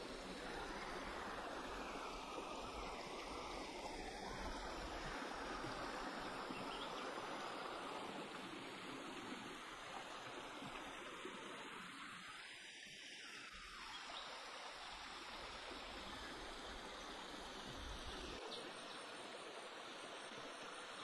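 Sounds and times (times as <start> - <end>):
stream flowing over stones: 0.0 - 21.0.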